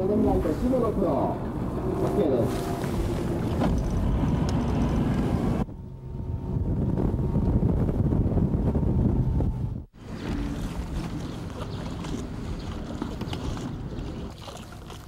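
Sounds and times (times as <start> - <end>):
outboard motor drone: 0.1 - 15.0
wind on the microphone: 1.6 - 14.3.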